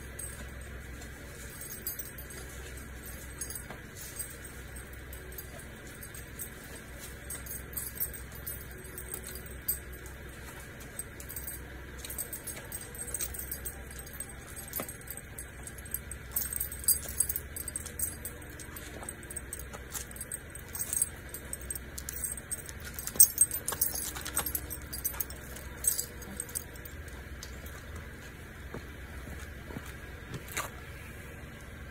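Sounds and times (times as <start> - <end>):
dog collar tags jingling: 0.0 - 27.8.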